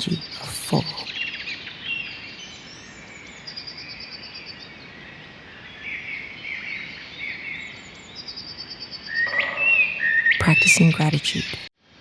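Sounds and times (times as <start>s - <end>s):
birds chirping: 0.0s - 5.0s, 5.7s - 11.7s.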